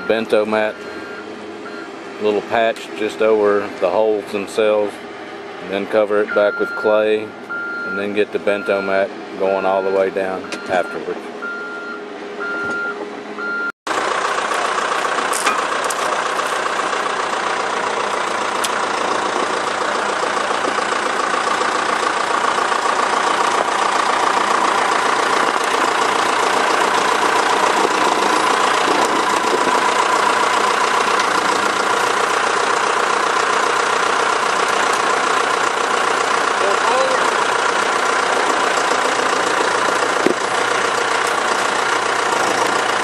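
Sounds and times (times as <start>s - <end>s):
heavy machinery engine running: 0.0s - 43.0s.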